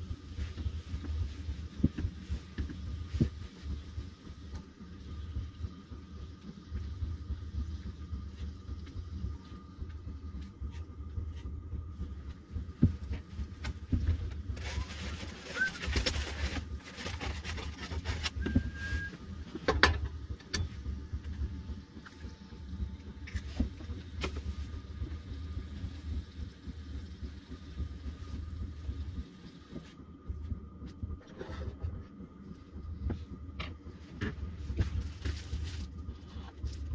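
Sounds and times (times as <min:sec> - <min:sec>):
stove burner rumble: 0:00.0 - 0:36.9.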